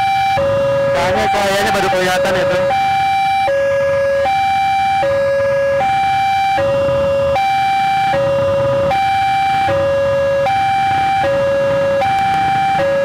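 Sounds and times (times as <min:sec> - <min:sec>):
two-tone level-crossing alarm: 0:00.0 - 0:13.0.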